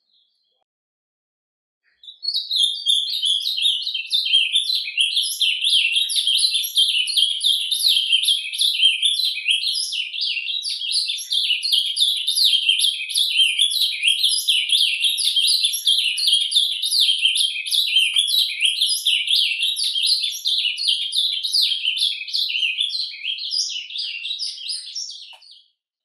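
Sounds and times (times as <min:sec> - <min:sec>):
bird warbling song: 0:01.8 - 0:25.7.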